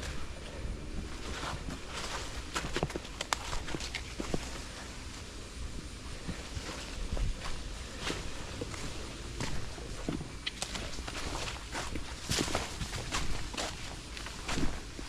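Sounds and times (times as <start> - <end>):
footsteps crunching dry leaves: 1.1 - 5.1, 6.2 - 15.0.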